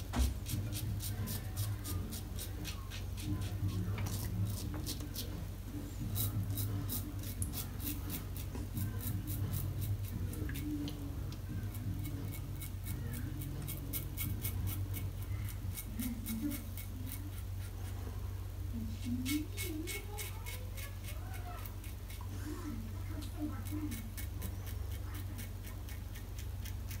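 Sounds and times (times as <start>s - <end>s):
razor scraping stubble: 0.0s - 18.1s, 19.0s - 27.0s.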